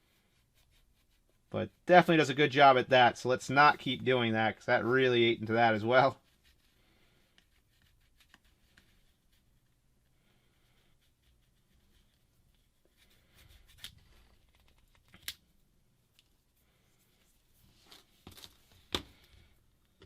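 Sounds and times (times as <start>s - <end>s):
faint rubbing and scraping: 0.0s - 19.6s.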